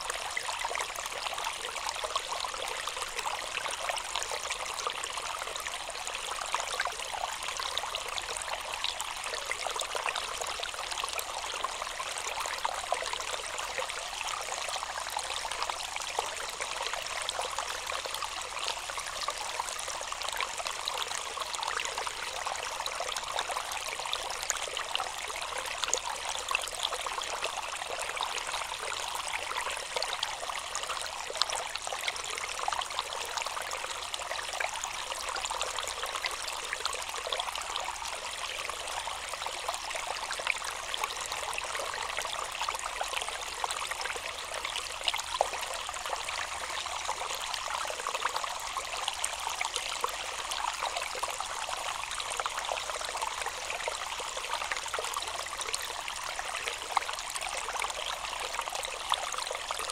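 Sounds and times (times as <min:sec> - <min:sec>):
stream trickling over stones: 0:00.0 - 0:59.9.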